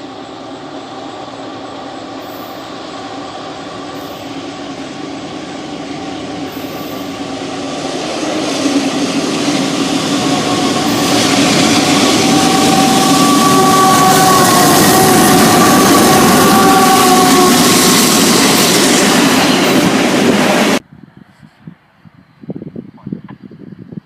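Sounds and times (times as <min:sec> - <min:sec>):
steady whining tones: 0:00.0 - 0:20.8
train wheels rumbling on rails: 0:00.0 - 0:20.9.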